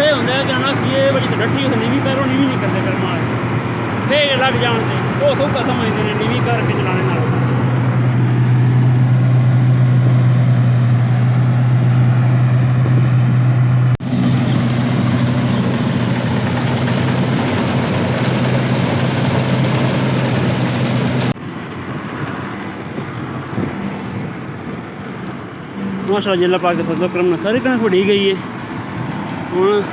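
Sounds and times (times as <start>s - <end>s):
machinery clatter: 0.0s - 26.1s
combine harvester engine hum: 0.0s - 29.9s.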